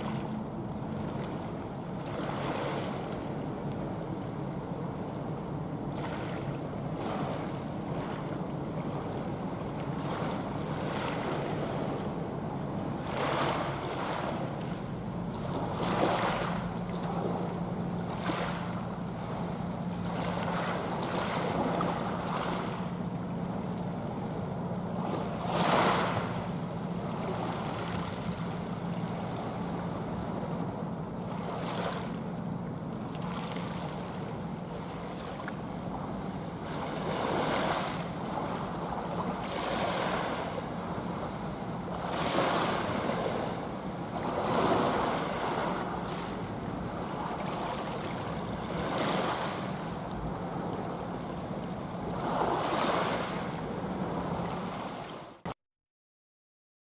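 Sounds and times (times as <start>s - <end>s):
waves washing: 0.0s - 55.5s
low steady ship hum: 0.0s - 55.6s.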